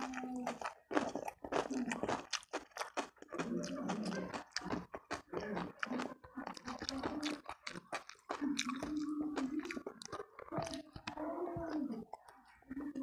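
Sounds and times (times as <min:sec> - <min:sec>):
crunchy wet chewing: 0:00.0 - 0:13.0.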